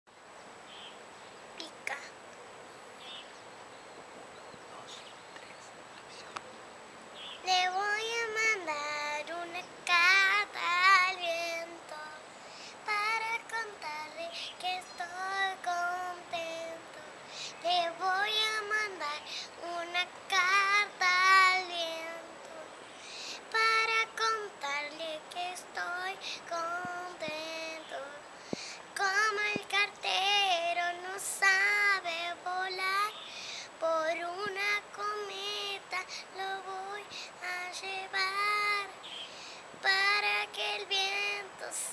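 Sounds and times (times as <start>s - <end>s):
girl singing: 1.6s - 2.2s, 7.4s - 41.9s.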